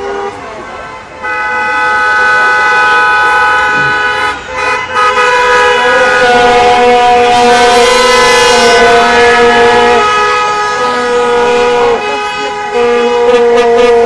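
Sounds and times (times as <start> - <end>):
vehicle horns honking: 0.0 - 14.0.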